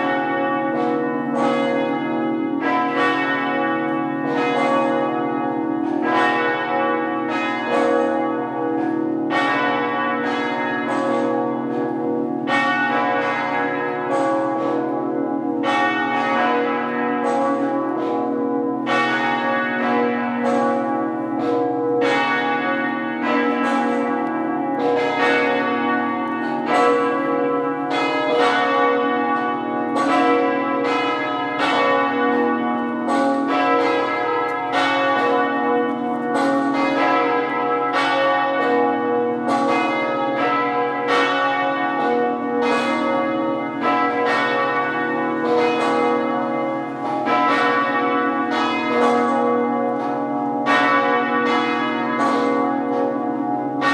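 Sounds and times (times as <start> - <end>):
half-muffled church bells ringing: 0.0 - 53.9.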